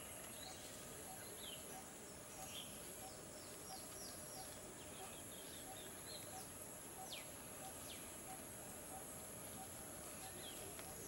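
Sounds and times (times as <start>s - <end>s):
birds whistling: 0.0s - 11.0s.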